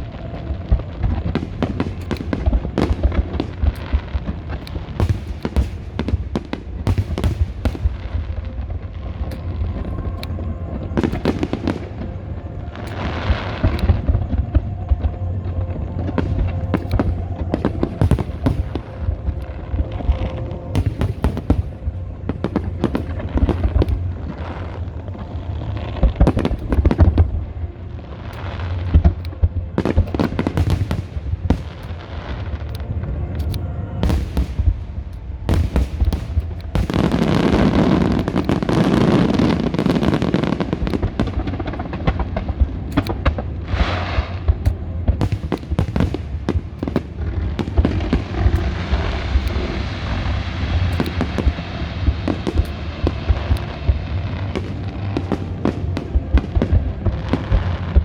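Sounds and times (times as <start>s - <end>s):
crackling firework bursts: 0.0s - 33.4s, 34.0s - 58.0s
deep rumble: 0.0s - 58.0s
fireworks bangs and booms: 0.0s - 58.0s.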